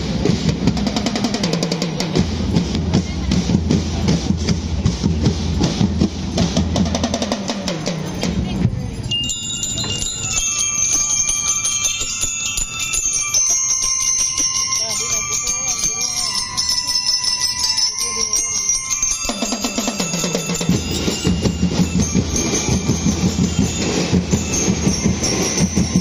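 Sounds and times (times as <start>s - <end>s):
bell lyres playing a melody: 0.0s - 26.0s
drums beating steadily: 0.0s - 26.0s.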